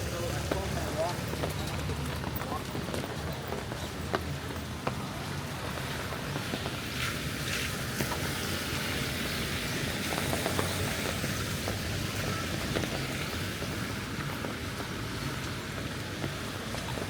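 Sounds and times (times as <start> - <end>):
steady rain hiss: 2.1 - 17.0.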